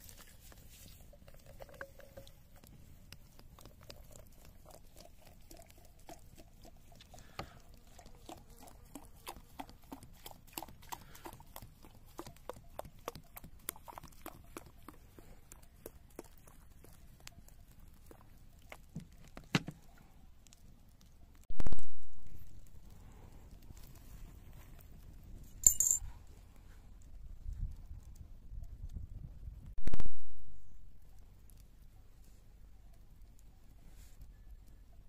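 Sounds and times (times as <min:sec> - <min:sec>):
wood campfire crackling and popping: 0:00.0 - 0:29.9, 0:30.9 - 0:35.0.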